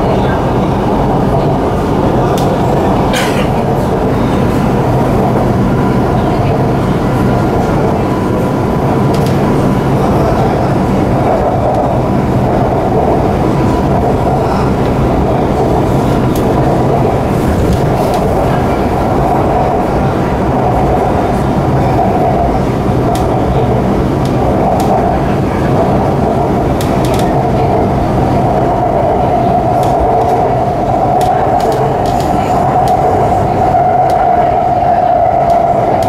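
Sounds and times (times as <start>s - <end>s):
train wheels on rails: 0.0s - 36.0s.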